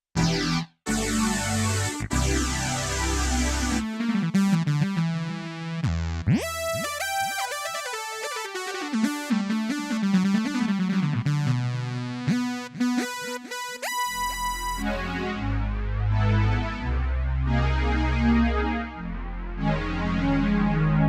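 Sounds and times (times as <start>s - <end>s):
electronic keyboard synth melody: 0.2s - 21.0s.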